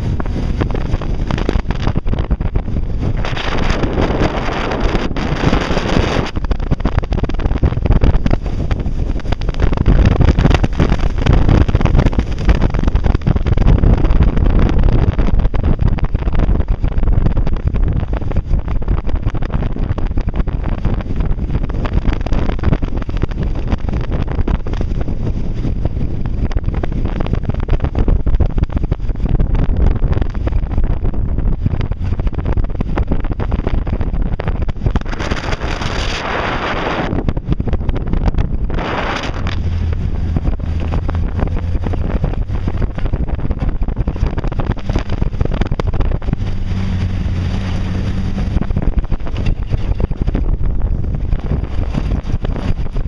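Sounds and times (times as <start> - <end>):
vehicle rumble on dirt trail: 0.0 - 53.0
wind buffeting microphone: 0.0 - 53.0.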